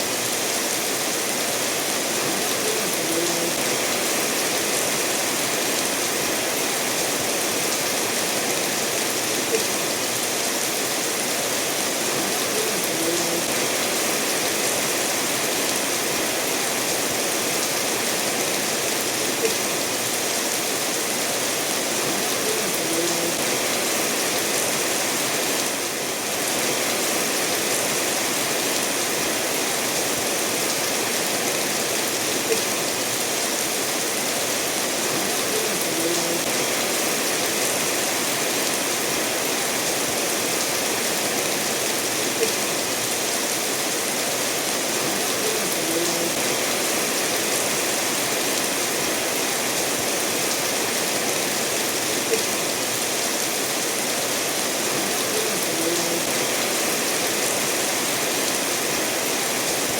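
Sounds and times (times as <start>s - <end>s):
steady rainfall: 0.0s - 59.9s
stream running over stones: 0.0s - 59.9s.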